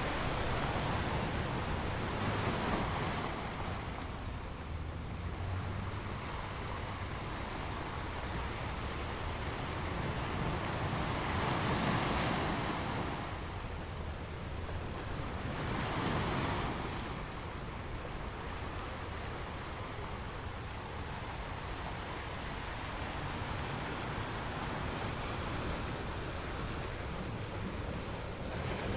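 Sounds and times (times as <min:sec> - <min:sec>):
sea waves: 0:00.0 - 0:28.9
wind: 0:00.0 - 0:28.9.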